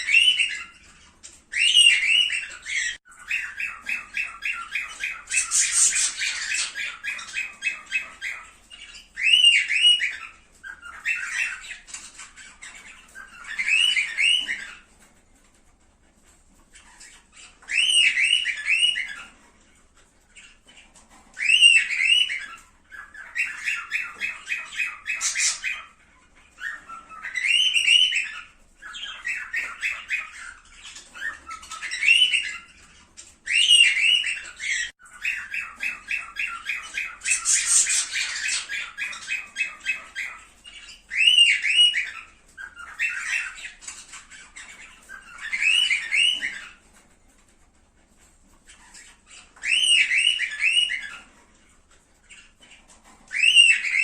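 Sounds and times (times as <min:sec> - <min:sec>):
cockatiels chattering and whistling: 0:00.0 - 0:54.0.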